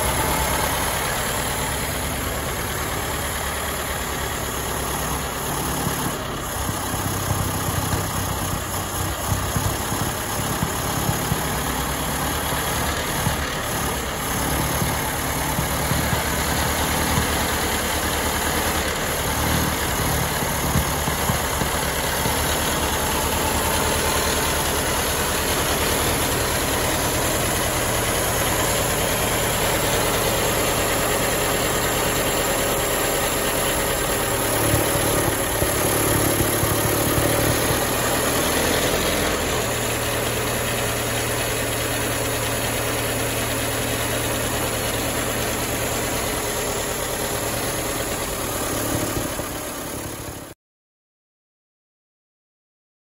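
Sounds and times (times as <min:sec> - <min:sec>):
bus engine idling: 0:00.0 - 0:50.6.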